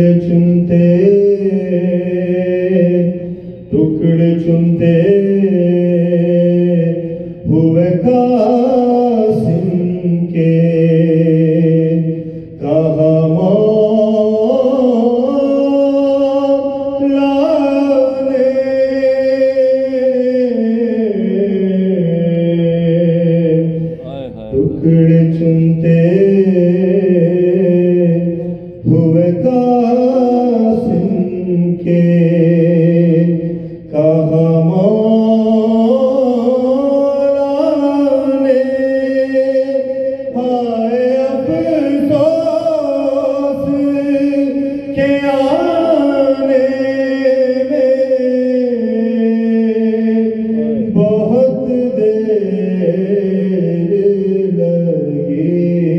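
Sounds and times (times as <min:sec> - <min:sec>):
man singing unaccompanied: 0:00.0 - 0:55.9.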